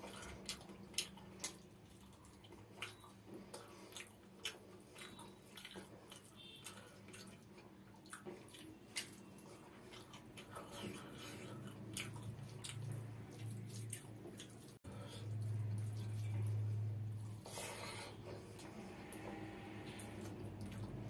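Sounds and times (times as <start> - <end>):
chewing: 0.0 - 21.0
wet squishes of food mixing: 0.0 - 21.0.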